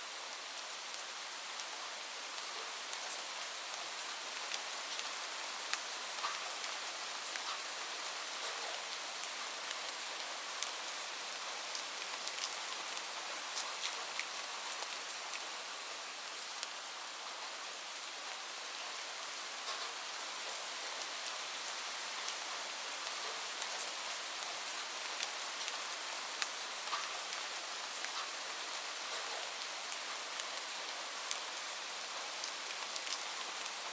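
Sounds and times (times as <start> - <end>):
steady rain falling: 0.0 - 33.9
raindrops ticking on a surface: 0.4 - 17.6, 18.2 - 33.9.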